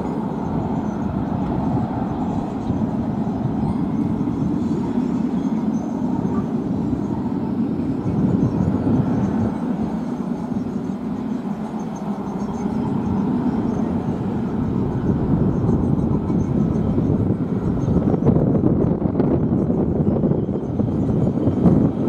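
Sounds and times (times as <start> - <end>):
distant jet airliner rumble: 0.0 - 22.0.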